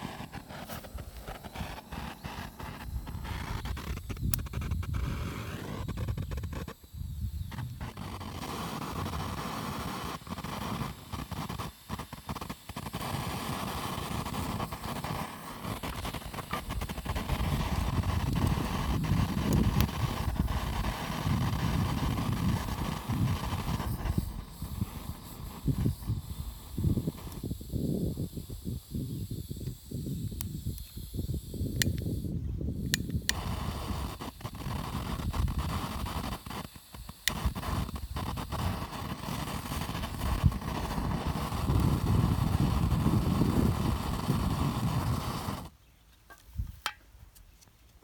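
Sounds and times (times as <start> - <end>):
arc welding crackling hiss: 0.0 - 45.8.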